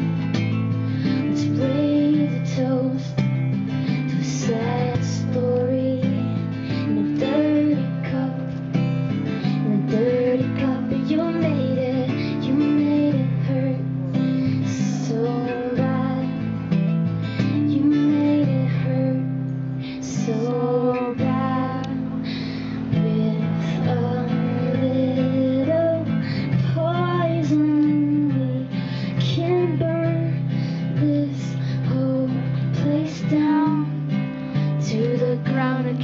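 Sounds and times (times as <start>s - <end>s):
strummed acoustic guitar: 0.0s - 36.0s
woman singing: 0.9s - 36.0s.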